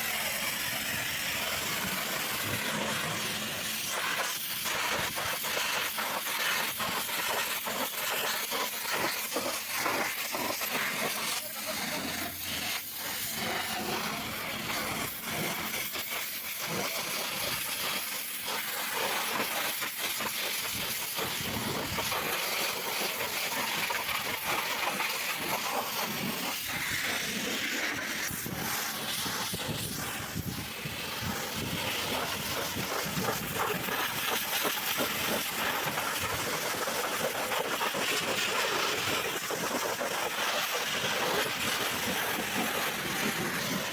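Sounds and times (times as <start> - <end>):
pressure washer spraying: 0.0 - 43.9.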